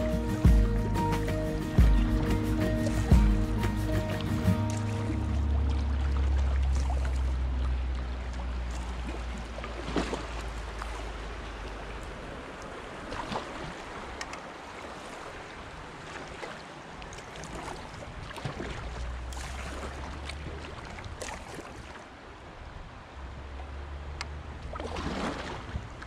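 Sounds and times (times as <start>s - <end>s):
paddle splashes and drips: 0.0s - 26.0s
river water rushing against hull: 0.0s - 26.0s.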